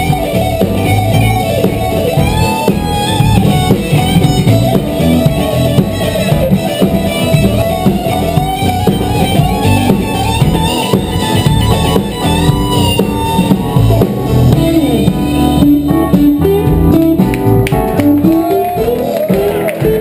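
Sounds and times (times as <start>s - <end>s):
electric guitar lead bending: 0.0s - 20.0s
rock band playing loudly: 0.0s - 20.0s.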